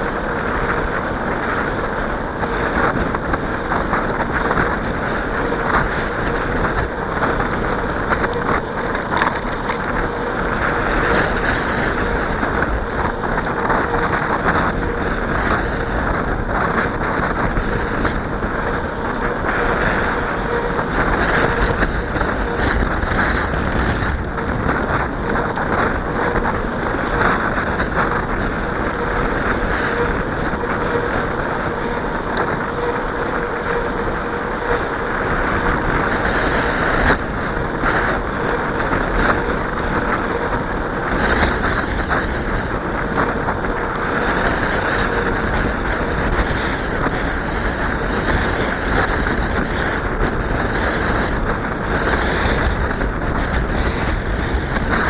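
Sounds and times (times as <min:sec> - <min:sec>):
faint steady hum: 0:00.0 - 0:55.0
wind buffeting microphone: 0:00.0 - 0:55.0.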